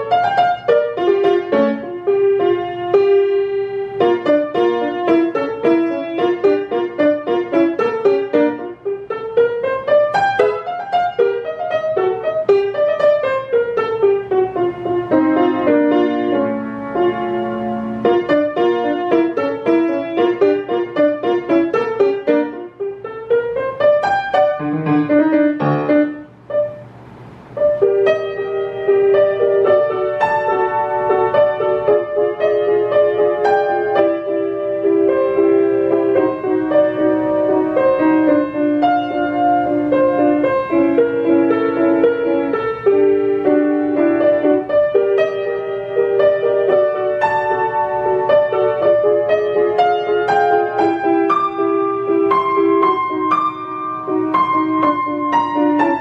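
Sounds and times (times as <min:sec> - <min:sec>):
grand piano runs: 0:00.0 - 0:56.0.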